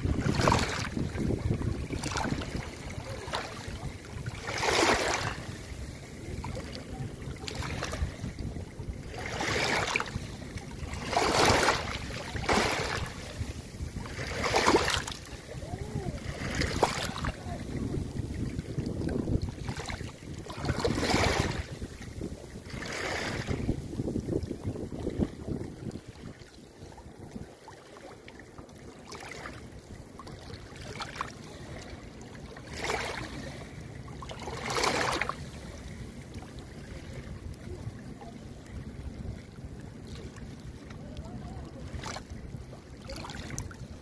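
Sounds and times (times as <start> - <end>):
wind rumbling on microphone: 0.0 - 27.7, 29.4 - 44.0
small waves lapping and splashing: 0.0 - 44.0.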